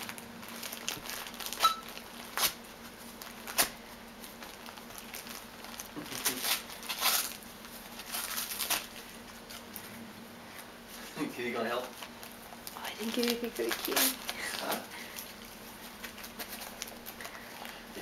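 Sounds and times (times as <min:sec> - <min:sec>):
wrapping paper crinkling and tearing: 0:00.0 - 0:10.0, 0:11.0 - 0:18.0.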